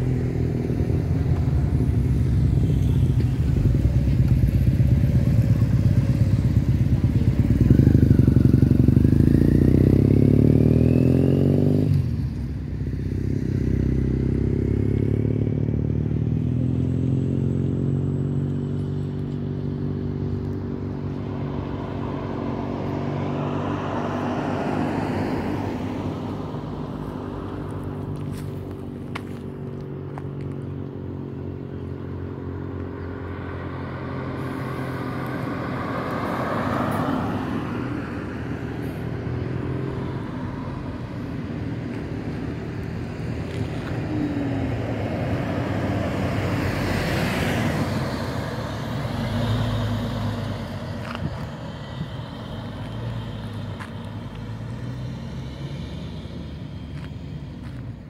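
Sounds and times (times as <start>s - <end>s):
bus engine humming: 0.0s - 58.0s
vehicles passing by: 0.0s - 58.0s.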